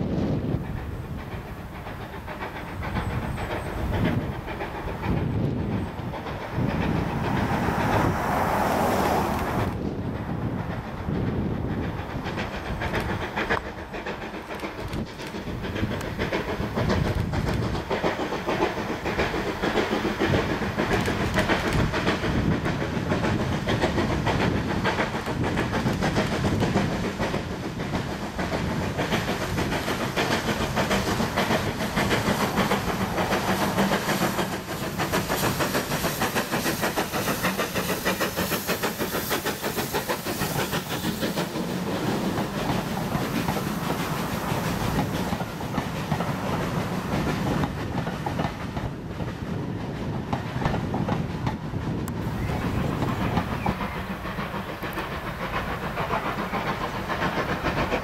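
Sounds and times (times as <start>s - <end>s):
steam hiss: 0.0s - 58.0s
steam locomotive exhaust chuffs: 0.0s - 58.0s
train coaches rolling past: 0.0s - 58.0s.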